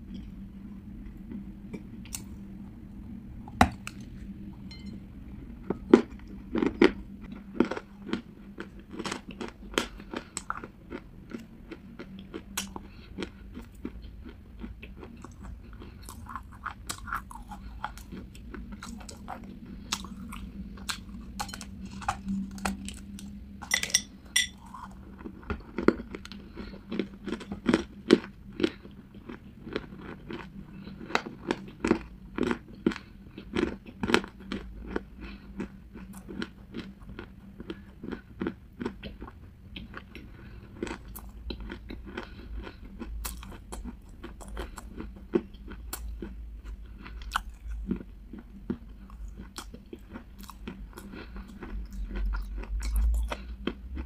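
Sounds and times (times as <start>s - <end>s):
chewing and crunching hard clay: 5.6s - 54.0s.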